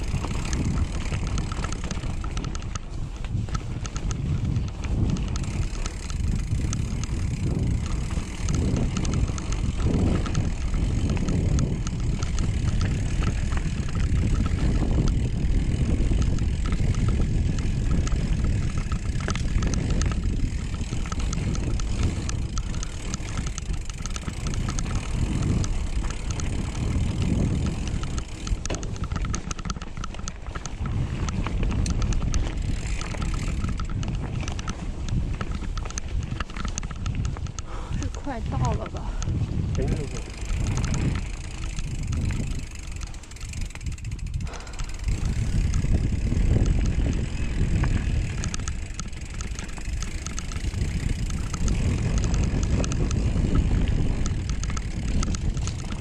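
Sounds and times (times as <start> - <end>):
bike rattling clicks: 0.0 - 56.0
bike tyre noise on dirt: 0.0 - 56.0
wind rumbling on microphone: 0.0 - 56.0.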